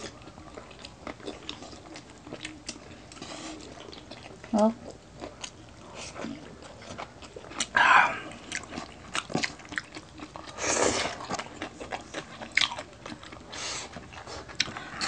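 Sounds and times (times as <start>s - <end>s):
wet chewing and mouth clicks: 0.0s - 15.0s.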